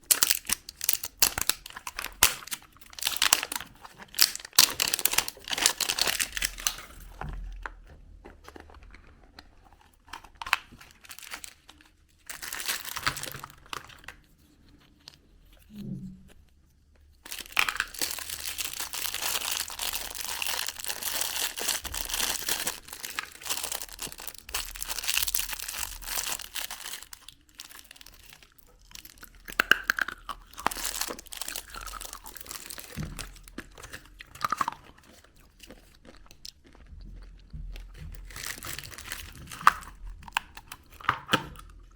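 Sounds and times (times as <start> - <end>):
candy wrappers crinkling: 0.0 - 15.8, 16.9 - 41.9.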